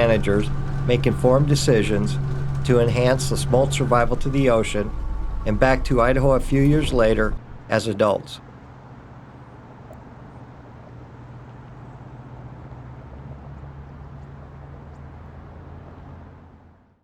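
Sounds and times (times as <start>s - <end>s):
rushing river water: 0.0s - 16.5s
low engine hum: 0.0s - 17.0s.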